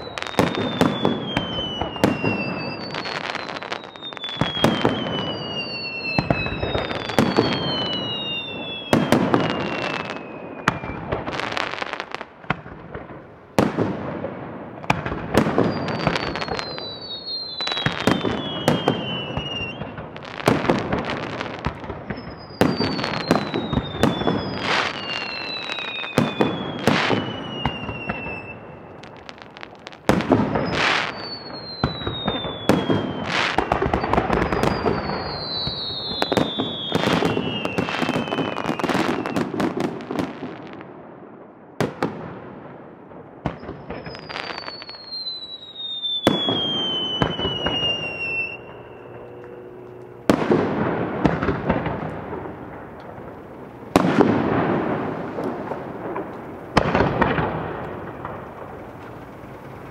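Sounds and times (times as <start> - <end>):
descending firework whistles: 0.0 - 12.8, 13.6 - 40.8, 43.4 - 59.9
fireworks bursting with bangs: 0.0 - 59.9.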